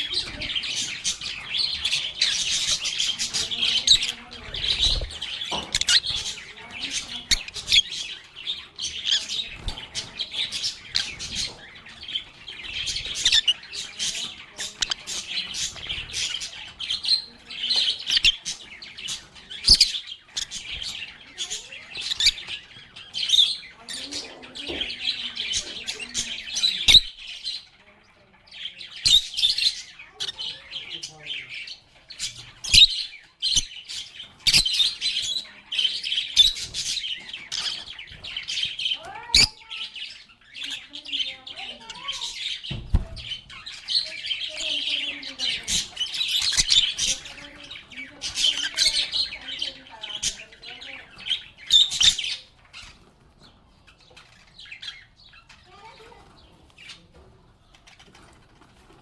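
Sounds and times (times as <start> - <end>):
lovebirds chirping and squawking: 0.0 - 59.0.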